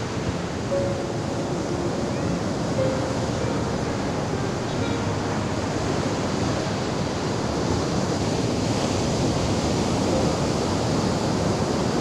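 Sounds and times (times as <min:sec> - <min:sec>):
surf breaking on beach: 0:00.0 - 0:12.0.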